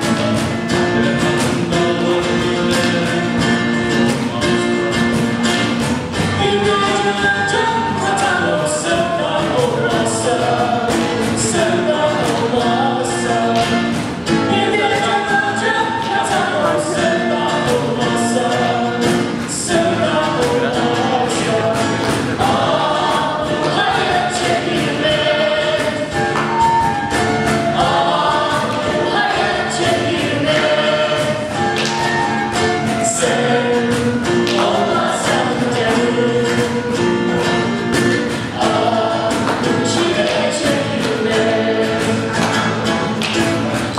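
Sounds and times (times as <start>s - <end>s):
group of voices singing: 0.0s - 43.9s.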